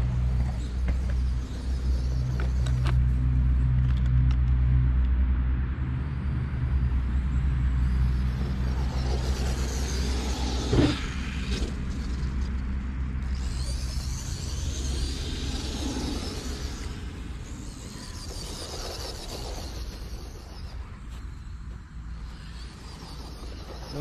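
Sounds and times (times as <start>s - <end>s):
rc car rushing past: 0.0s - 4.4s, 6.0s - 24.0s
low droning hum: 0.0s - 24.0s.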